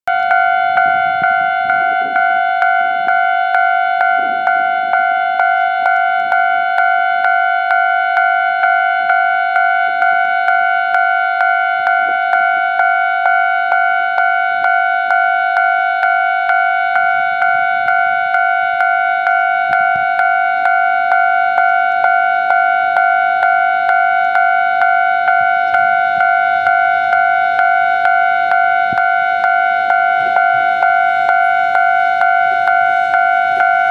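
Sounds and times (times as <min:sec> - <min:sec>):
level crossing electronic bell: 0:00.1 - 0:33.9.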